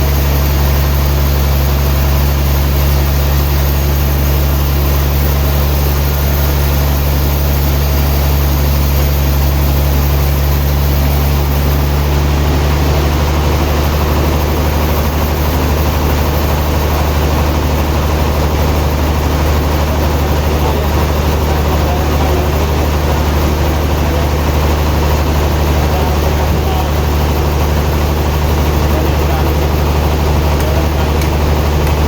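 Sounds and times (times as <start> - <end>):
sawmill machinery running: 0.0 - 32.0.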